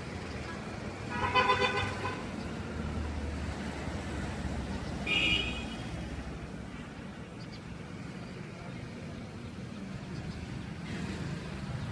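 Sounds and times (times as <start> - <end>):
low steady street rumble: 0.0 - 11.9.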